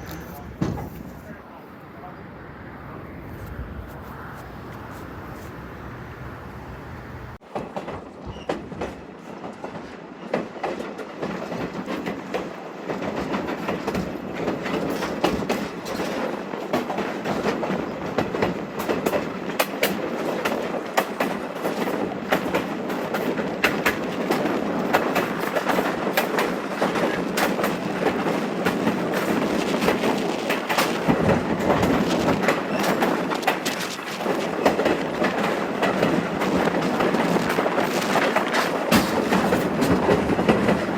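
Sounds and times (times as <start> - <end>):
railroad car running noise: 0.0 - 40.9
train wheels clicking on rail joints: 3.4 - 40.9.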